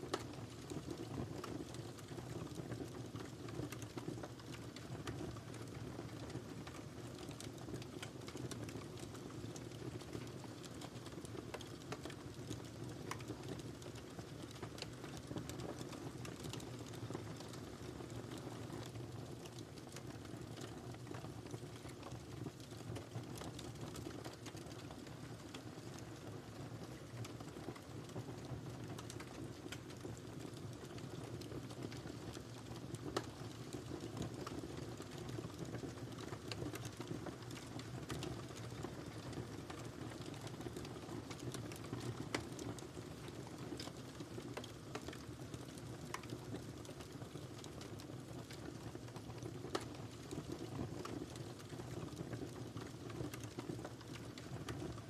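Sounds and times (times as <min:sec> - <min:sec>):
fire crackles and pops: 0:00.0 - 0:55.0
low rumble of flames: 0:00.1 - 0:55.0.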